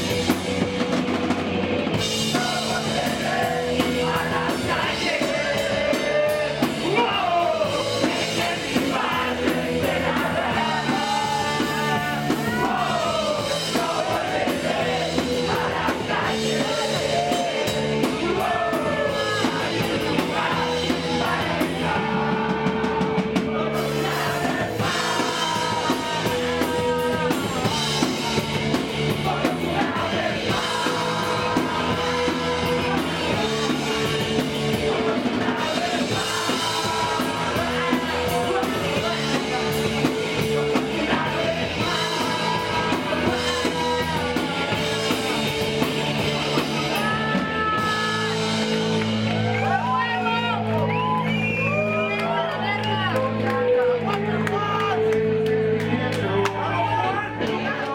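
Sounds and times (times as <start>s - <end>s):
drum kit: 0.0s - 52.4s
electric guitar: 0.0s - 57.9s
people singing and shouting: 0.0s - 57.9s.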